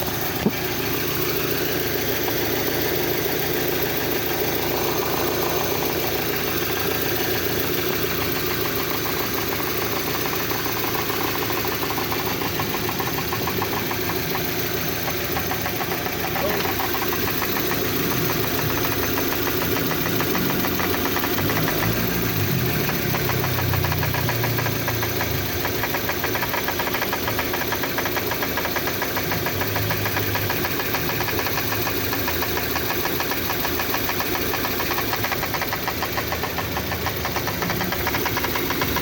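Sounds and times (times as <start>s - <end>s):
car engine running: 0.0s - 39.0s
fast ticking rattle: 0.0s - 39.0s.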